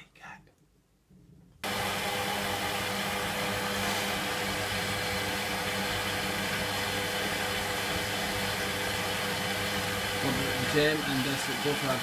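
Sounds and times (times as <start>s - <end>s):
washing machine whirring: 1.6s - 12.0s.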